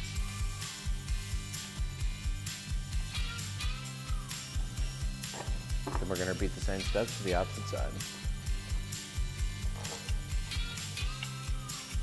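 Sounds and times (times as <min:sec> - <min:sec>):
music with bass-drum beat: 0:00.0 - 0:12.0.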